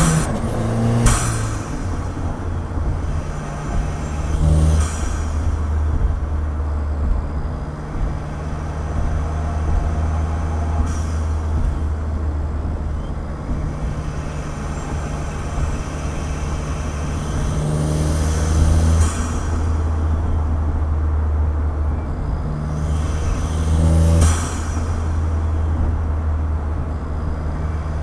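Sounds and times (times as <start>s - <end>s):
car engine and exhaust droning: 0.0s - 28.0s.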